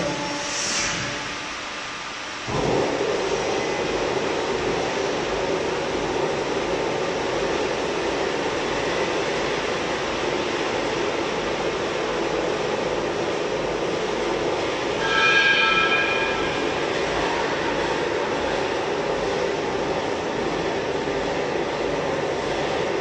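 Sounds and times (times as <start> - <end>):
rolling machine humming: 0.0 - 23.0.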